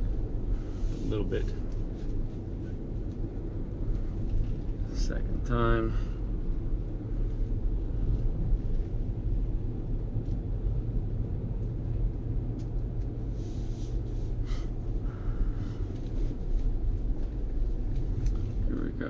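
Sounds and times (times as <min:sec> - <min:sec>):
road and wind rumble in car: 0:00.0 - 0:19.0.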